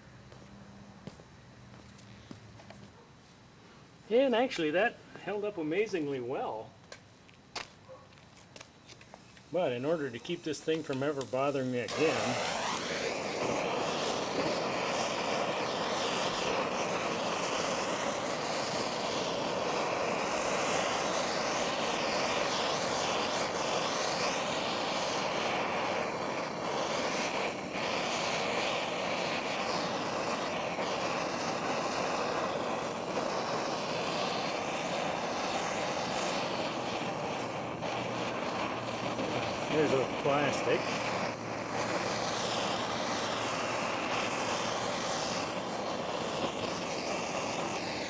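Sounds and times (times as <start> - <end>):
gas torch flame hissing: 0.0 - 48.0.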